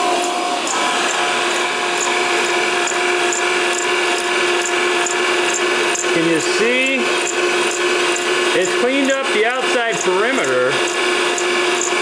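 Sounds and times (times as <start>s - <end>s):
grinding wheel whine: 0.0s - 12.0s.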